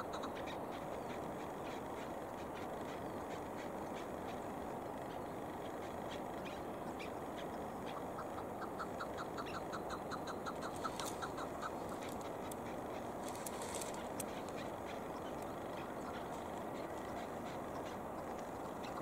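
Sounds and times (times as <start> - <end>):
partridge calling chuk notes: 0.0 - 19.0
steady background hiss: 0.0 - 19.0.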